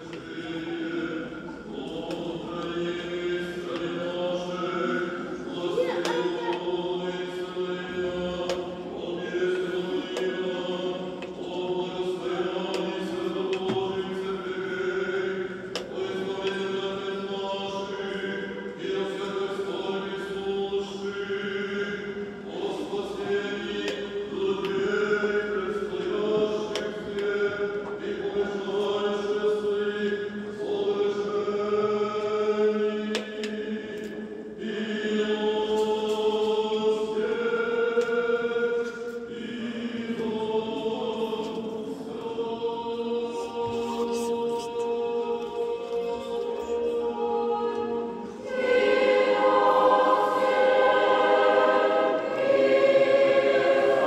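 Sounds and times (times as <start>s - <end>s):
choir chanting: 0.0s - 54.0s.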